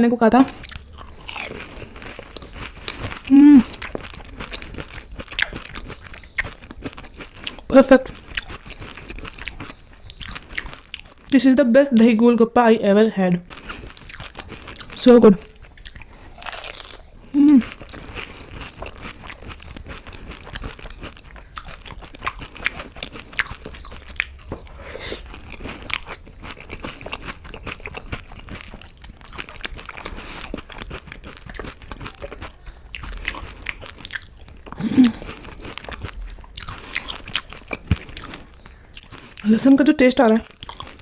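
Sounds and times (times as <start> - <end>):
chewing crisp puri shells: 0.3 - 41.0.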